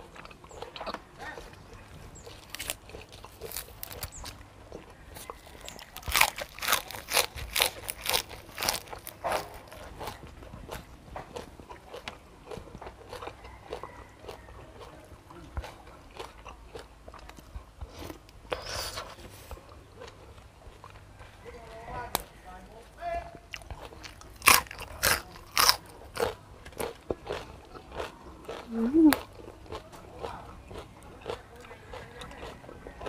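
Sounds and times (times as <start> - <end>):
crunchy biting and chewing: 0.0 - 21.5, 23.5 - 33.0.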